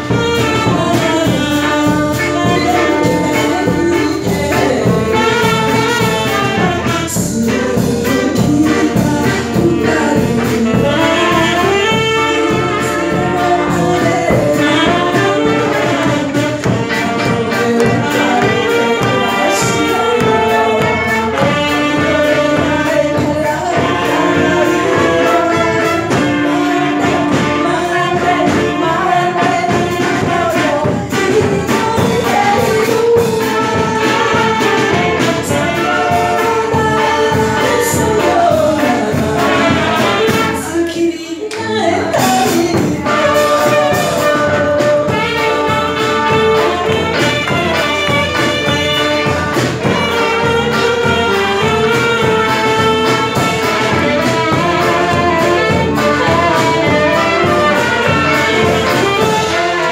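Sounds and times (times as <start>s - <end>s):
live band with saxophone and brass: 0.0s - 59.9s
person singing: 0.0s - 59.9s.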